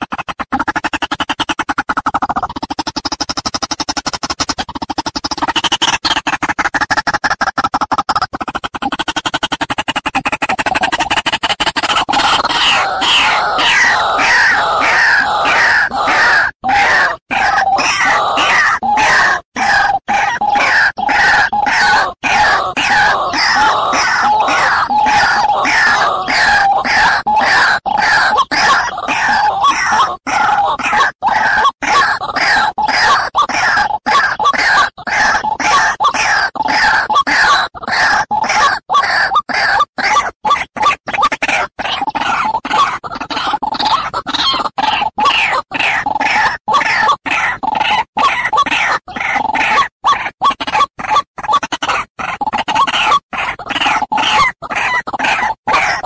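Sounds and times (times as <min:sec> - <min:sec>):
harsh croaking bird calls: 0:00.0 - 0:56.0.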